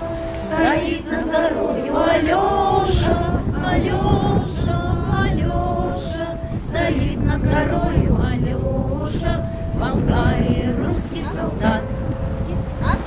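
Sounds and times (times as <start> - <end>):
acoustic guitar: 0.0 - 13.0
women singing together: 0.0 - 13.0.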